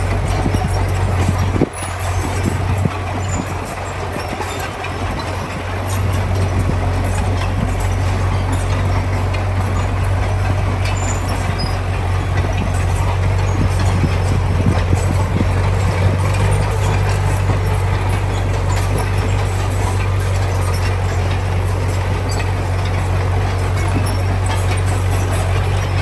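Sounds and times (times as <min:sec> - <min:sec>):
diesel engine droning: 0:00.0 - 0:26.0
metal clanks and rattles: 0:00.0 - 0:26.0.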